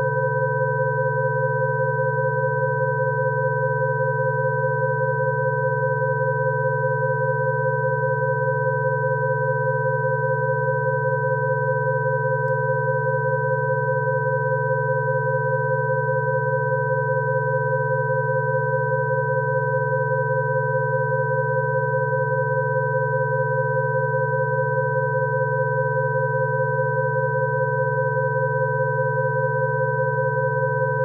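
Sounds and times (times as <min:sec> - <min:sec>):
steady sine tones: 0:00.0 - 0:31.0.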